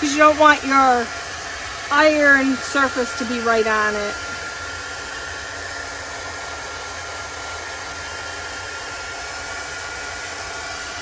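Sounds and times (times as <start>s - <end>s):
hot-air dryer blowing with whine: 0.0s - 11.0s.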